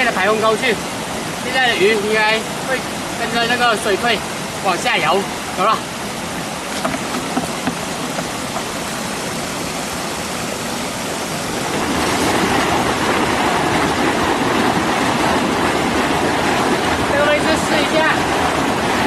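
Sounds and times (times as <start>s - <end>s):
floodwater rushing and splashing: 0.0s - 19.0s.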